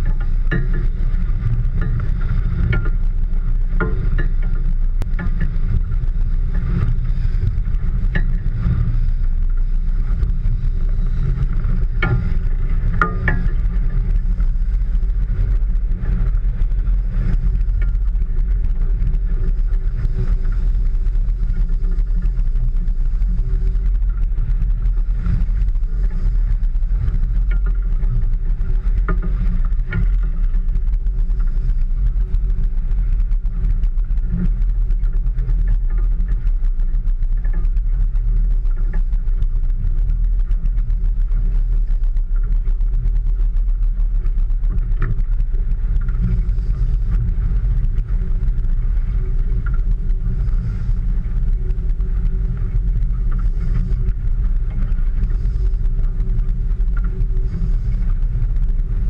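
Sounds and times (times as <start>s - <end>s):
boat engine rumble: 0.0s - 59.0s
water on the hull: 0.0s - 59.0s
wind: 0.0s - 59.0s.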